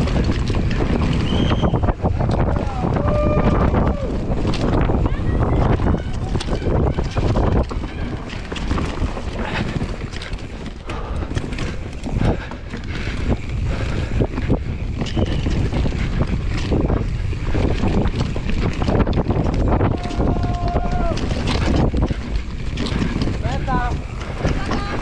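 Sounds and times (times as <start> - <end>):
bike knocks and rattles: 0.0 - 25.0
tyres on loose dirt: 0.0 - 25.0
wind buffeting microphone: 0.0 - 25.0.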